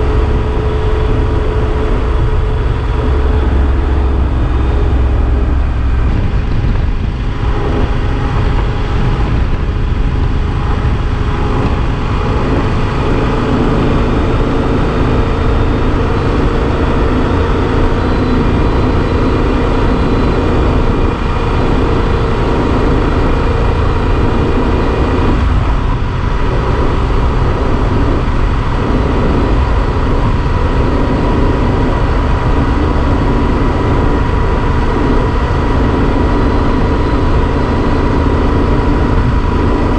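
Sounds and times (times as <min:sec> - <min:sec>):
motorcycle engine cruising: 0:00.0 - 0:39.9
wind rumble: 0:00.0 - 0:39.9.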